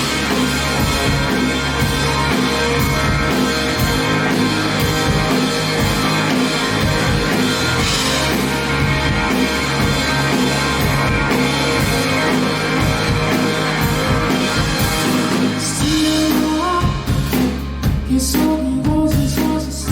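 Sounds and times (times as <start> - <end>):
rock band playing: 0.0 - 19.9.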